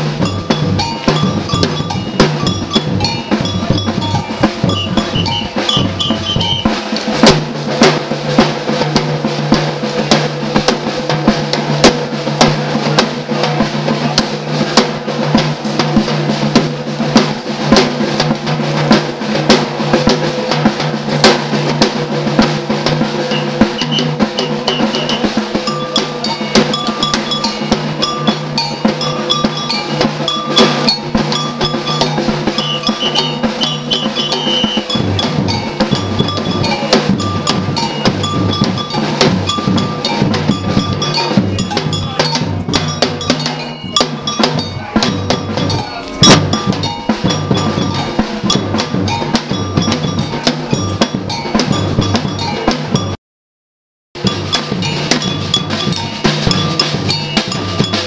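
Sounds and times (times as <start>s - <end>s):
cowbell beat: 0.0s - 53.2s, 54.2s - 58.0s
driving drum rhythm: 0.0s - 53.2s, 54.2s - 58.0s
pitched backing music: 0.0s - 53.2s, 54.2s - 58.0s.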